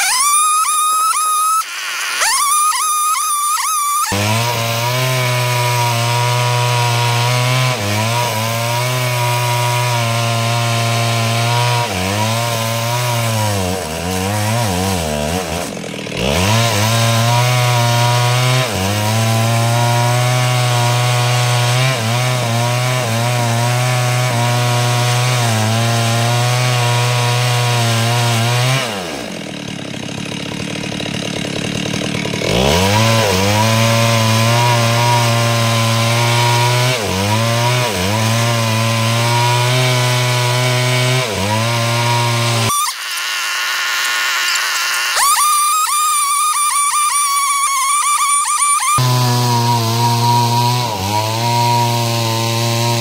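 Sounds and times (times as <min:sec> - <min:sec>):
chainsaw ripping timber: 0:00.0 - 0:53.0.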